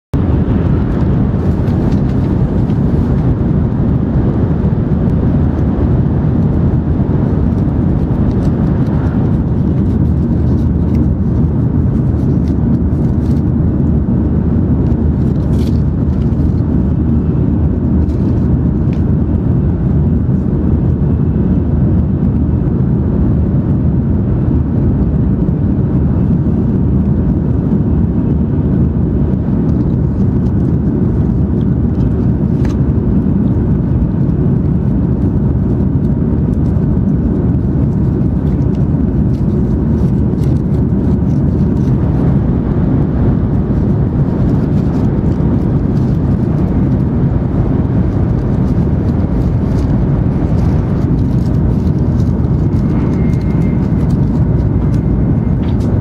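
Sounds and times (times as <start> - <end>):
high-speed train cabin rumble: 0.1 - 56.0.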